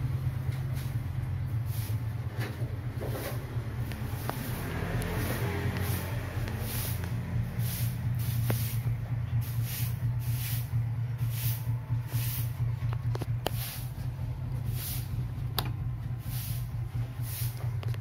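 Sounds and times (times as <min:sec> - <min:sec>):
ceiling fan motor hum: 0:00.0 - 0:18.0
rhythmic whoosh of air: 0:03.1 - 0:17.9.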